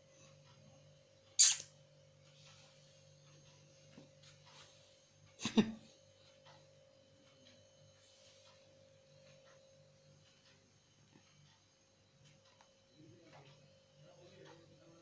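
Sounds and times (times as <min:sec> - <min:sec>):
faint steady tone: 0:00.0 - 0:15.0
steady low hum: 0:00.0 - 0:15.0.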